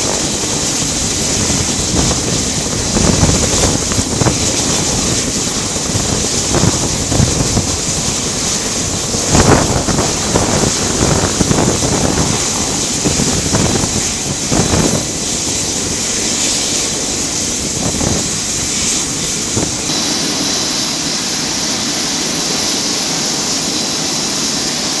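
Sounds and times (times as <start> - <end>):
aircraft turbine engines whining: 0.0 - 25.0.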